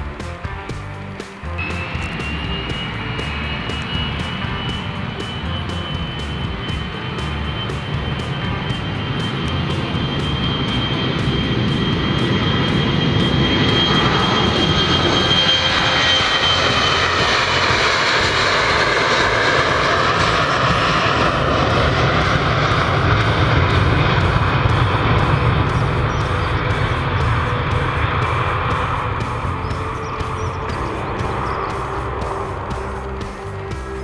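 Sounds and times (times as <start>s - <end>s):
jet roar with fan whine: 0.0s - 34.0s.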